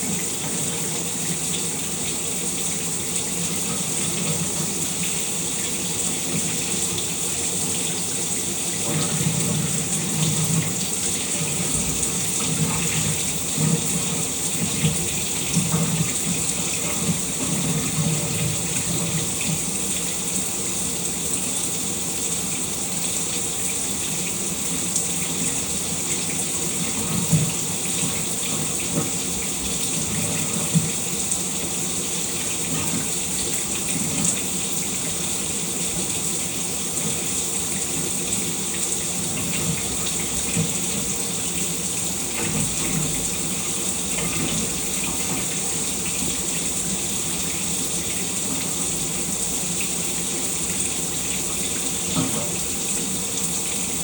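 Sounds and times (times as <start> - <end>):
shower running: 0.0 - 54.0.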